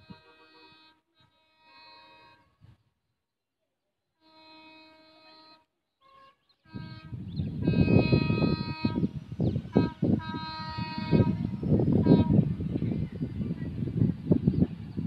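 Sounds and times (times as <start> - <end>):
locomotive horn blasts: 0.0 - 2.6, 4.2 - 14.4.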